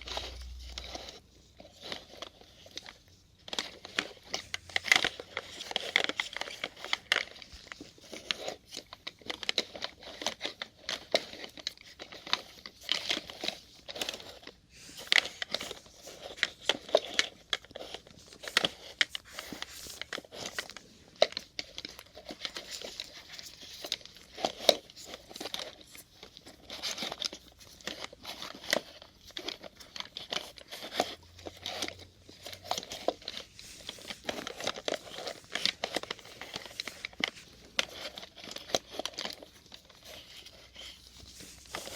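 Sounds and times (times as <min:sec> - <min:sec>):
plastic syringes clicking and rattling: 0:00.0 - 0:41.9.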